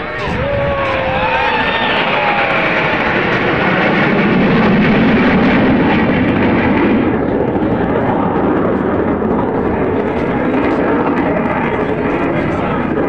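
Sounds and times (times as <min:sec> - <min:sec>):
jet aircraft passing overhead: 0:00.0 - 0:13.0.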